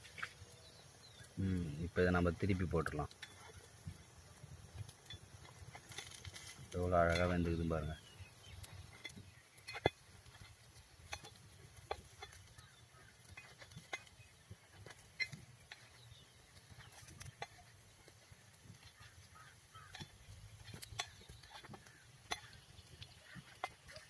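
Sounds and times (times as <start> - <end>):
faint background noise: 0.0 - 24.0
stick tapping cast-iron pan: 2.0 - 24.0.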